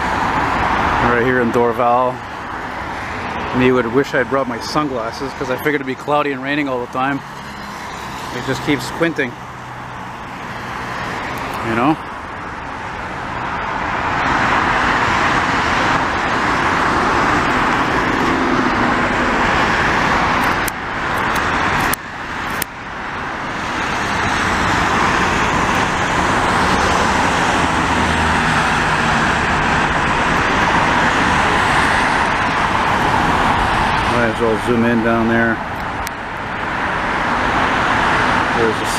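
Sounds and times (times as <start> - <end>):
cars and trucks passing at speed: 0.0 - 38.9
tyre roar on road: 0.0 - 38.9.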